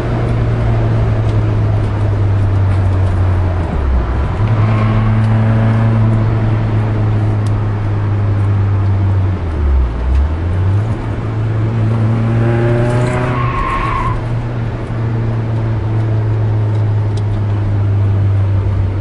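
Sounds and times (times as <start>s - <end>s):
car engine running under load: 0.0s - 19.0s.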